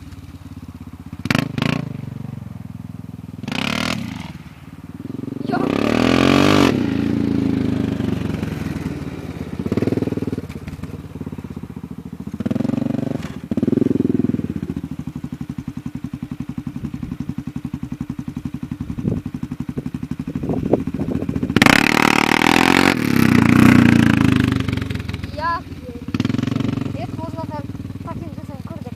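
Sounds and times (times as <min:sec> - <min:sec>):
atv engine revving and idling: 0:00.0 - 0:28.9.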